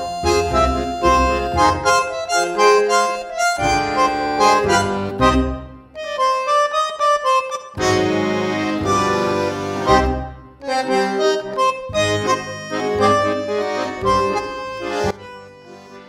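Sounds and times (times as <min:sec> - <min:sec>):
instrumental music melody: 0:00.0 - 0:16.0.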